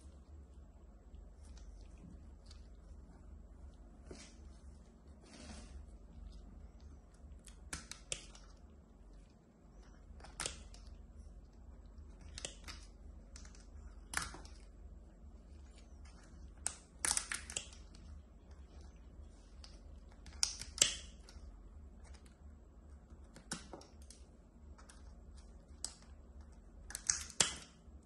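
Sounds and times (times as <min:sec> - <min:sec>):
clicks and crackles of crusty mass: 0:00.0 - 0:28.0.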